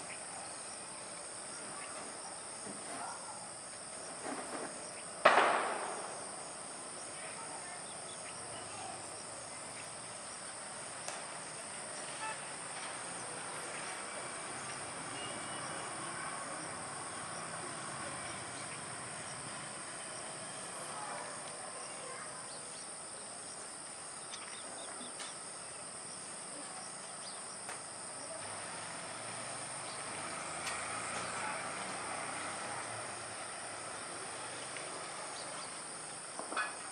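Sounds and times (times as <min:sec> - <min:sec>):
insect chirring: 0:00.0 - 0:36.9
outdoor background noise: 0:00.0 - 0:36.9.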